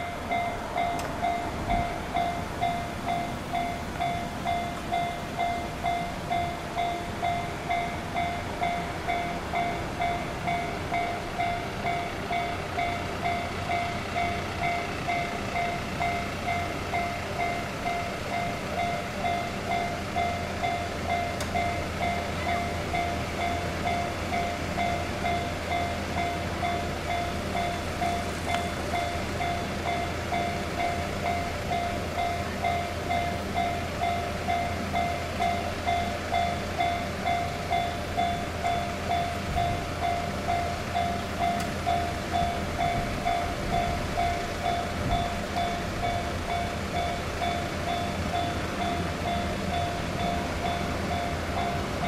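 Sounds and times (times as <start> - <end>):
railroad crossing bell clanging: 0.0 - 52.0.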